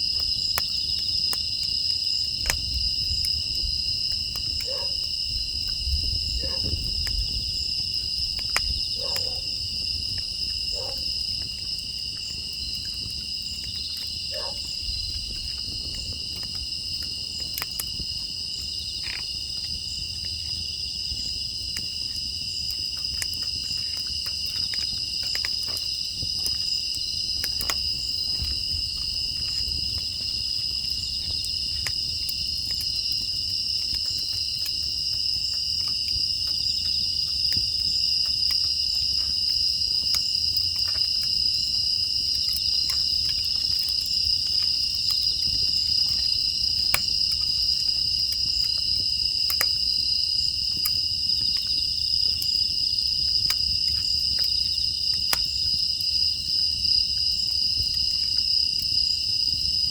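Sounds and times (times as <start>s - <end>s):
crickets and insects trilling: 0.0s - 59.9s
wood fire crackling: 0.0s - 59.9s.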